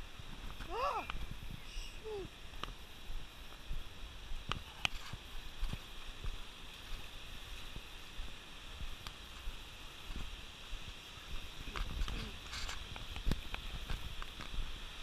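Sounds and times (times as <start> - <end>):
small waves washing onto sand: 0.0 - 15.0.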